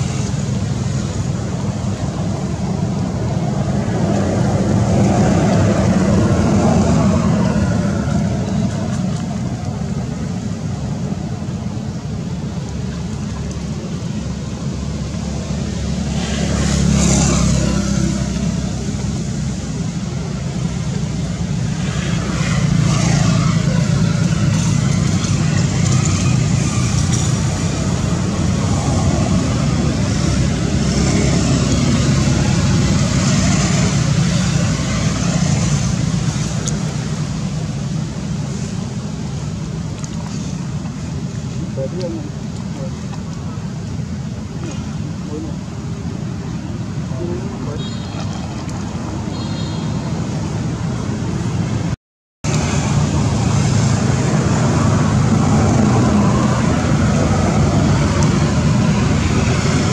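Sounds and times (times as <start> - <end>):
motor vehicle engines humming: 0.0 - 59.9.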